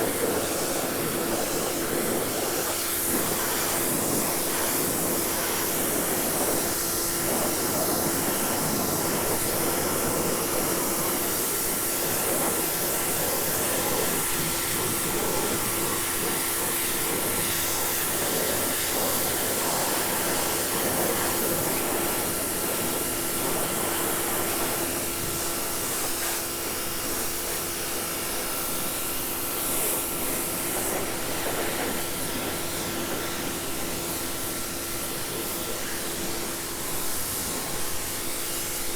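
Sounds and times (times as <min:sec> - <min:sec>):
electric motor and pump hum: 0:00.0 - 0:38.9
water jet spraying on decking: 0:00.0 - 0:38.9.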